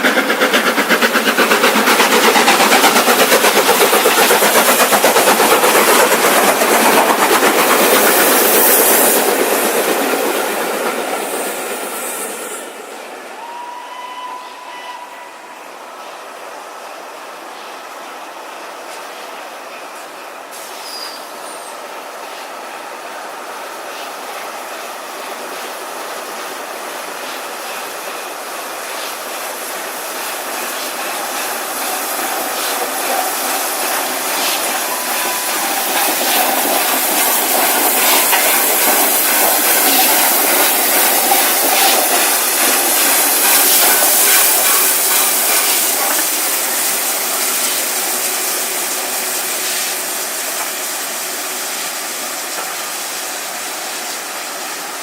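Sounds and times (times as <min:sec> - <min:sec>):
train passing on rails: 0:00.0 - 0:55.0.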